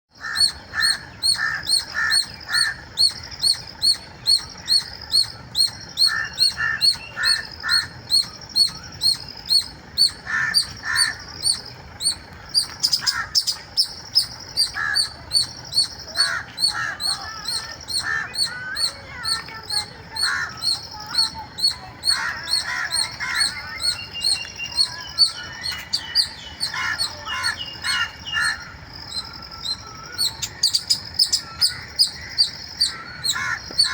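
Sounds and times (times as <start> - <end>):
squirrel lower calls: 0.2 - 33.9
squirrel high-pitched chirps: 0.4 - 33.9.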